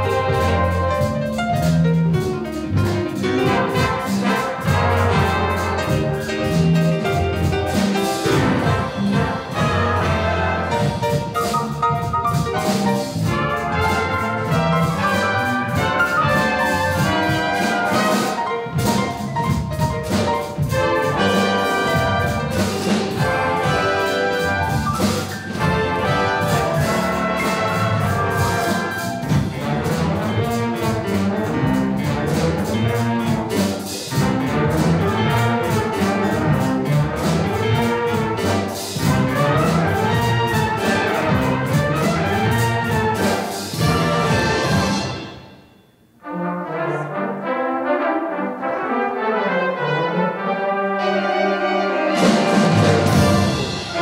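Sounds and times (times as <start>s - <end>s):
jazz band playing: 0.0s - 54.0s.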